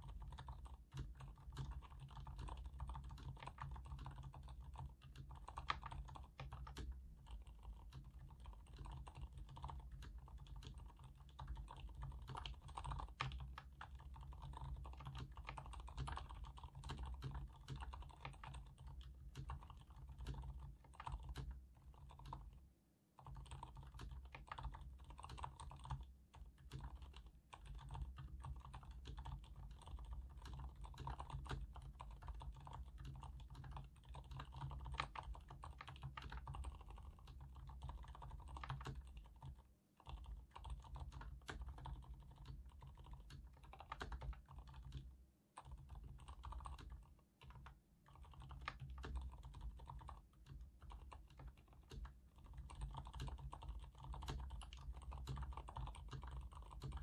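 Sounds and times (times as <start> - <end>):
quiet mechanical keyboard typing: 0.0 - 57.0.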